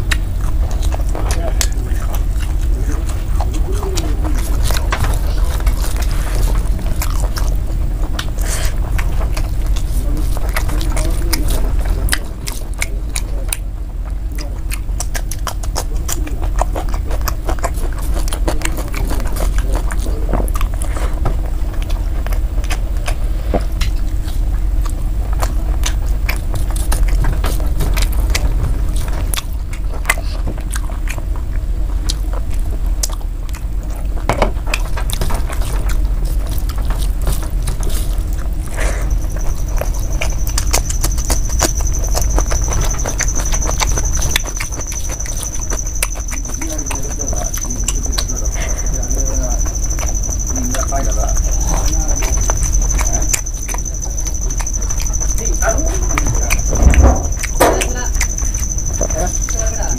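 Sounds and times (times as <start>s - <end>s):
steady low rumble: 0.0s - 59.9s
wet chewing and lip smacks: 0.0s - 59.9s.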